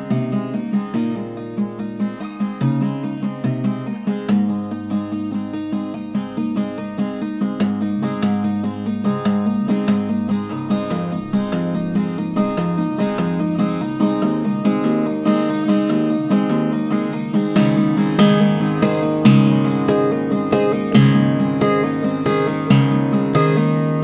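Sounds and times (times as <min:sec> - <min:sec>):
acoustic guitar picking and strumming: 0:00.0 - 0:24.0.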